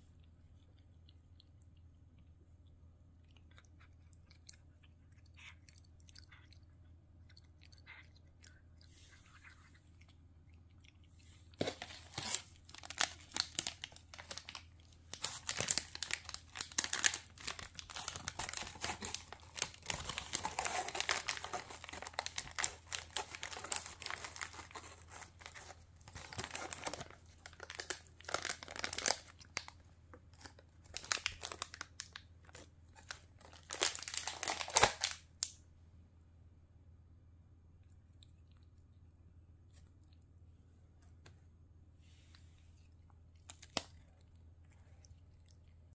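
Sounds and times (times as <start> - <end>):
cat chewing a treat: 0.0 - 33.6, 42.3 - 45.9.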